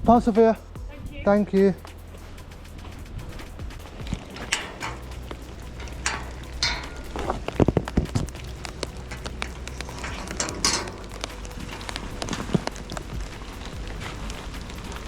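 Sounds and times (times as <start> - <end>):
low steady hum: 0.0 - 15.0
handling rustles: 1.4 - 15.0
sharp clicks and knocks: 1.6 - 15.0.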